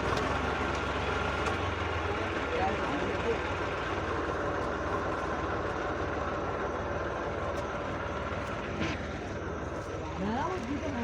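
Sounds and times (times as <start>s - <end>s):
diesel engine hum with whine: 0.0s - 11.0s.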